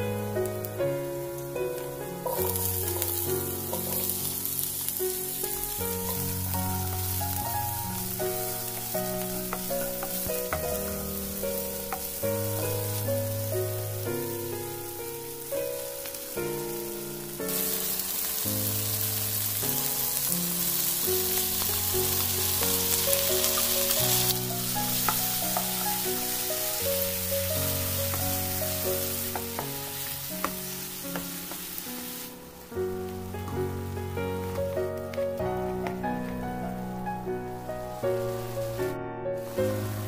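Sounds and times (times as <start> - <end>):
background music with sustained notes: 0.0 - 40.0
food sizzling in hot oil: 0.0 - 40.0.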